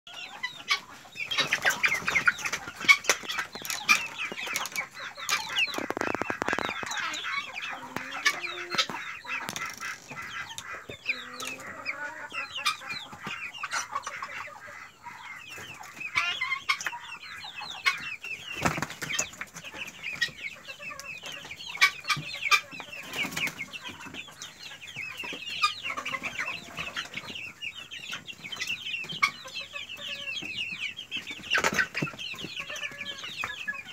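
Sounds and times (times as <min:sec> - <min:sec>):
chickens clucking and peeping: 0:00.1 - 0:33.9.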